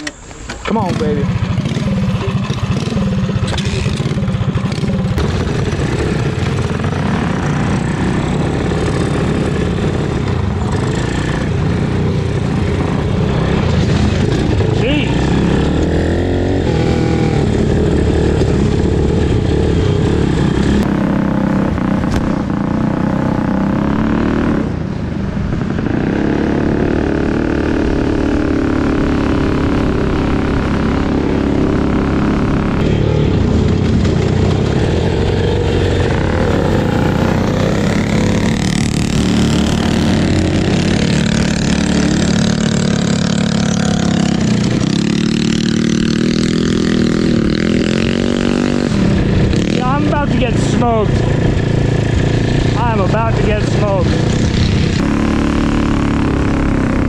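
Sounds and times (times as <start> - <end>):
mini bike engines revving: 0.0 - 24.8, 25.6 - 57.0.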